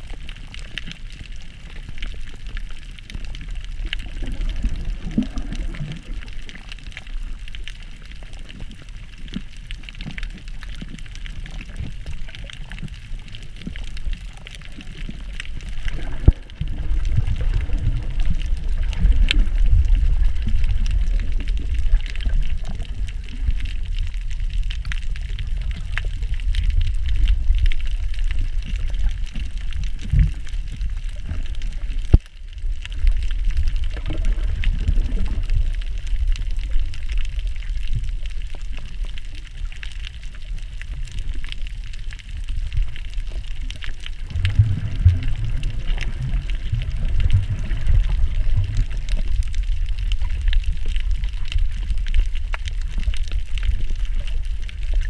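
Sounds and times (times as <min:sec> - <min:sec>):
underwater sloshing and bubbling: 0:00.0 - 0:55.0.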